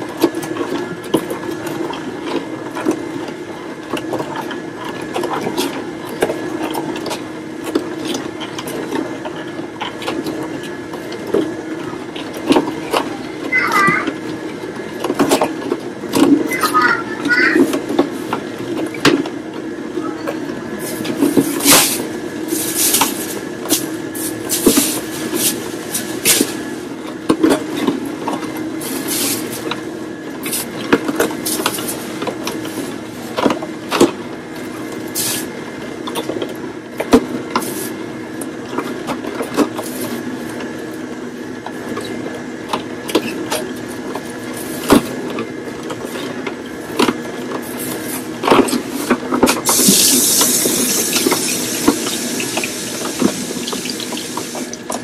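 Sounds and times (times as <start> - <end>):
juicer motor hum: 0.0 - 55.0.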